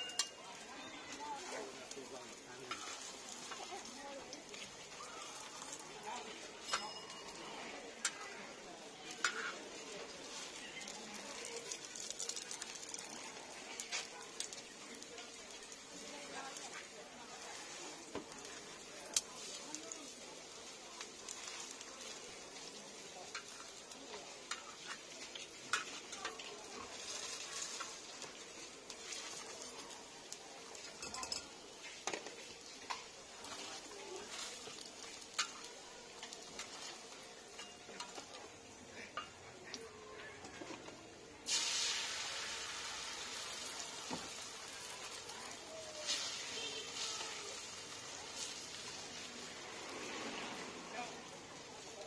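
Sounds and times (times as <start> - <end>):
egg sizzling on griddle: 0.0 - 52.0
patties sizzling on griddle: 0.0 - 52.0.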